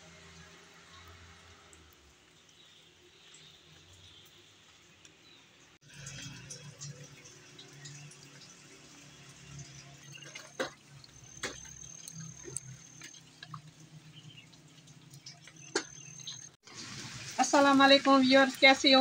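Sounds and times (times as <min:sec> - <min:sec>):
rain pattering on leaves: 0:00.1 - 0:19.0.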